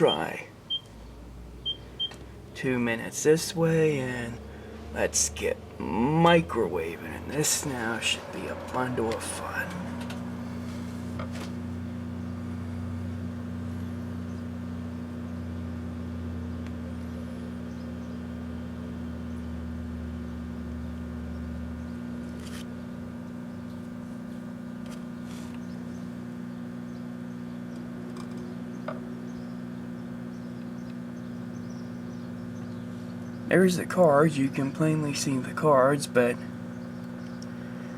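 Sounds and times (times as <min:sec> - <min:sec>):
microwave fan noise: 0:00.0 - 0:37.9
microwave oven humming: 0:00.0 - 0:37.9.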